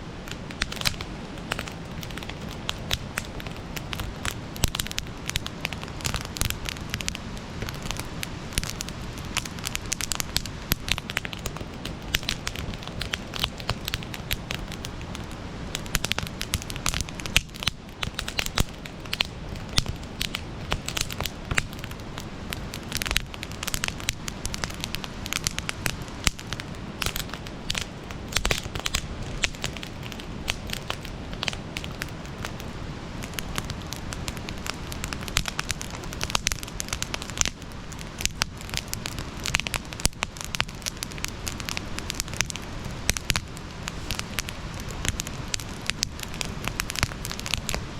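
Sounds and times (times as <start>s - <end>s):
campfire crackling and popping: 0.0s - 47.9s
low rush of flames: 0.0s - 47.9s.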